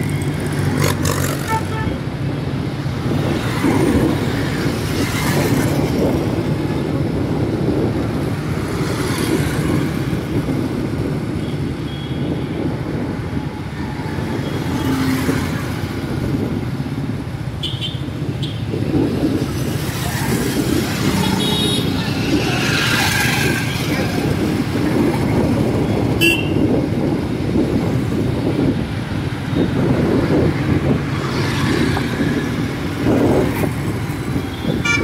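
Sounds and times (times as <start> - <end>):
car engines: 0.0 - 35.0
motorcycle engines: 0.0 - 35.0
tyre noise on road: 0.0 - 35.0
vehicles passing: 0.0 - 35.0.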